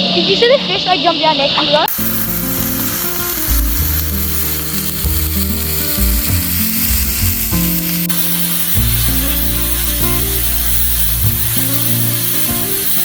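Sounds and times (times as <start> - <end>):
steady sizzling hiss: 0.2 - 13.0
music with moving bass line: 1.9 - 13.0.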